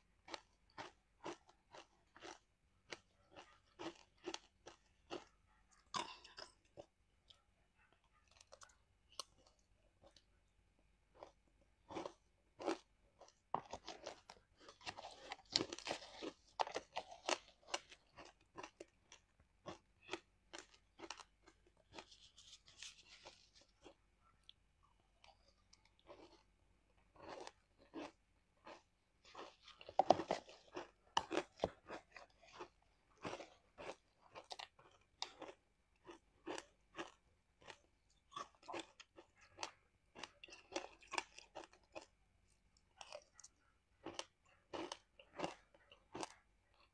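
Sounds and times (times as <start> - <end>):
ice being crunched and chewed: 0.2 - 7.4, 11.1 - 46.9.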